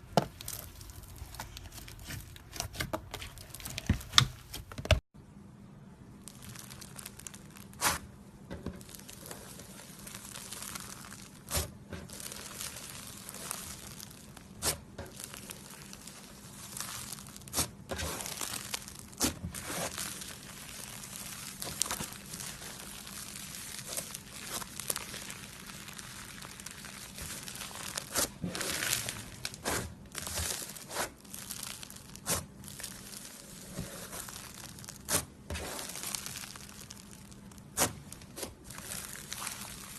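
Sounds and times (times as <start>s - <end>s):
slime squished and stretched: 0.0s - 5.0s, 6.2s - 8.1s, 8.7s - 39.9s.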